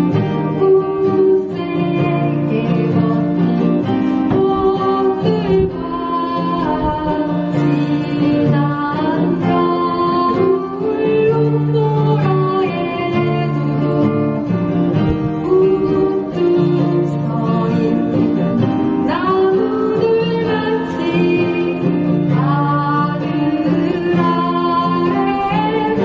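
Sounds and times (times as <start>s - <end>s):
acoustic guitar: 0.0s - 26.0s
person singing a ballad: 0.0s - 26.0s.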